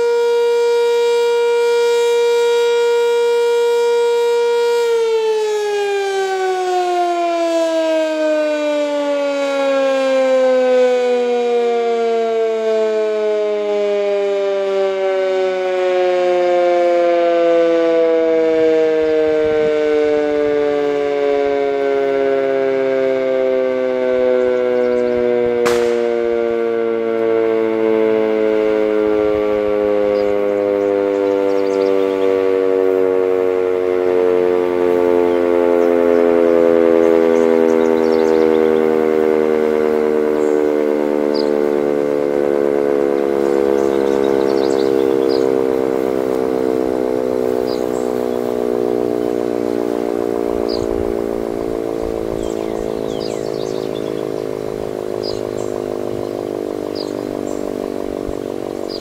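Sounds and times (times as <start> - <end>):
siren winding down: 0.0 - 59.0.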